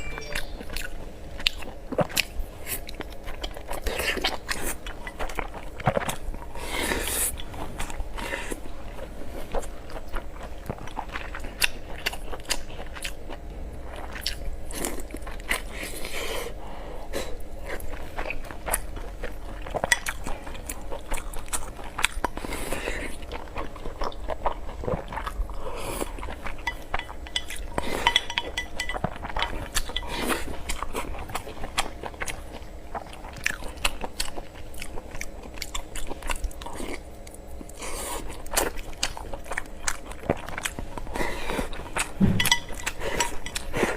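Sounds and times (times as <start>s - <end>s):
person chewing and crunching food: 0.0s - 43.9s.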